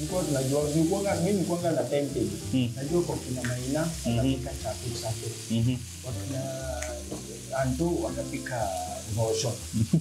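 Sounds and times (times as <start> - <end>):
fish frying in a pan: 0.0 - 10.0
pitched background notes: 0.0 - 10.0.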